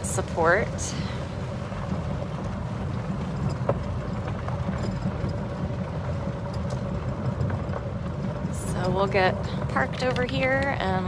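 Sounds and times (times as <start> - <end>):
faint steady whine: 0.0 - 11.0
vehicle rumble from inside: 0.0 - 11.0
small clicks and rattles: 0.8 - 11.0.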